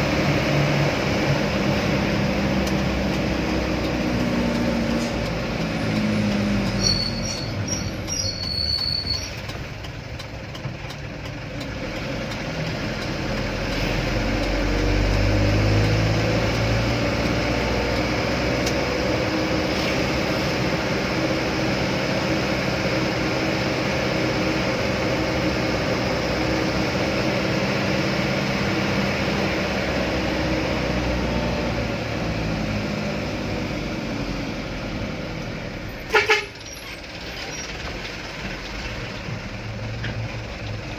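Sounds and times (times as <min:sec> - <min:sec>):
truck engine droning: 0:00.0 - 0:40.9.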